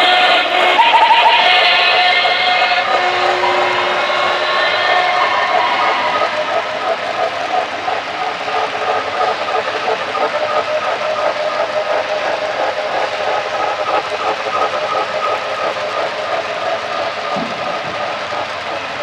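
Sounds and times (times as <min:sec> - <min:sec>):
model train wheels clattering: 0:00.0 - 0:19.0.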